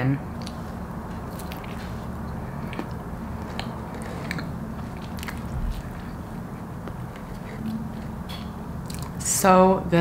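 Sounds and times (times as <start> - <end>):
steady low hum: 0.0 - 10.0
biting and chewing: 0.4 - 9.2.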